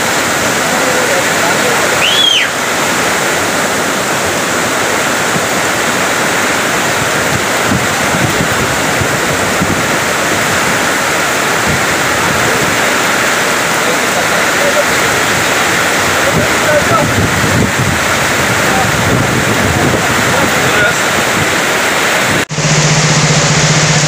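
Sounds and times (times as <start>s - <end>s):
mudflow torrent rushing: 0.0s - 24.0s.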